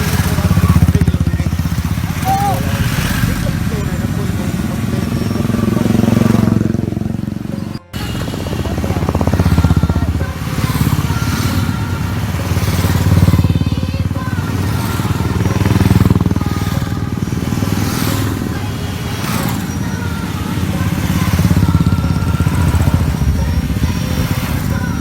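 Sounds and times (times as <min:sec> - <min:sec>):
motorcycles riding past: 0:00.0 - 0:25.0.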